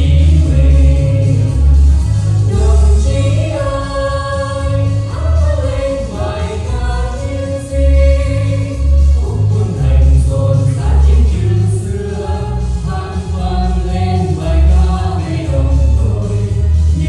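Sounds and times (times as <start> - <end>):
backing track with heavy bass: 0.0 - 17.0
vocal trio singing in harmony: 0.0 - 17.0.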